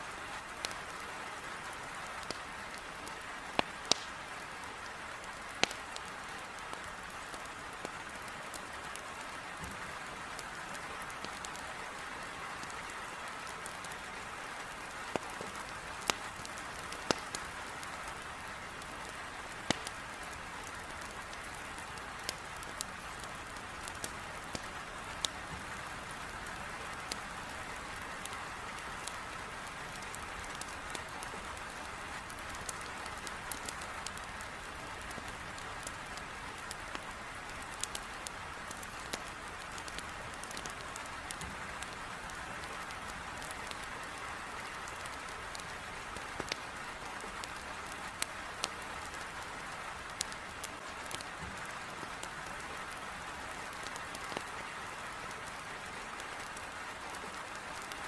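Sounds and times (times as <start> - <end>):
heavy rain on a window: 0.0 - 58.0
wood fire crackling: 0.1 - 58.0.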